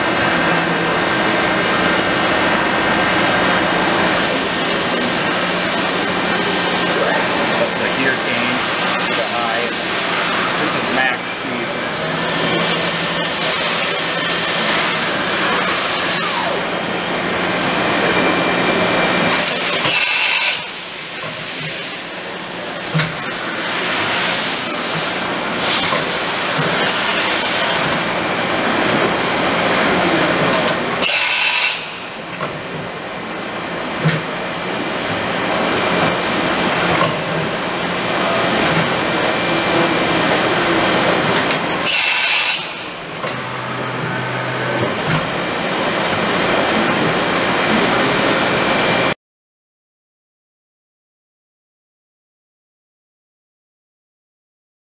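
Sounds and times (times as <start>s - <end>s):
machining center whirring: 0.0s - 49.2s.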